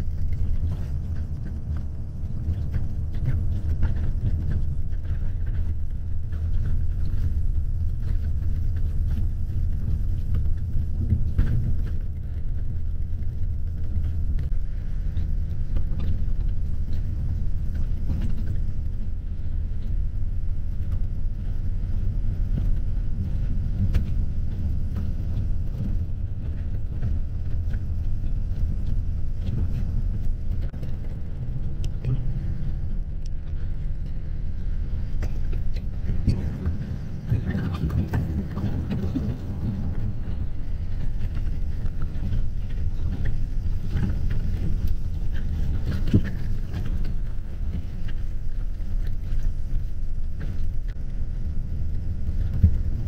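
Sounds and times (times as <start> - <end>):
bus road and engine rumble: 0.0 - 53.0
faint clicks and rattles: 0.0 - 53.0.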